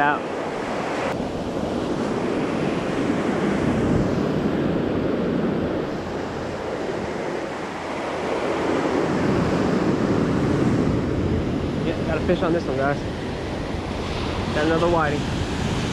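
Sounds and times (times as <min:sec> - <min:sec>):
wind buffeting the microphone: 0:00.0 - 0:15.9.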